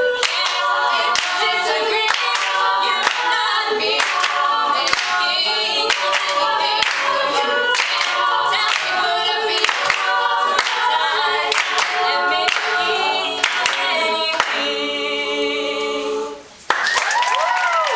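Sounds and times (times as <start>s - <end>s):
female a cappella group singing: 0.0s - 16.6s.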